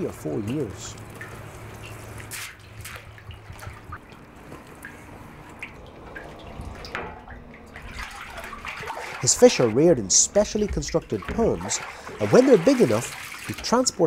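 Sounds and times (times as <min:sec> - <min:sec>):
water splashing and dripping: 0:00.0 - 0:14.0.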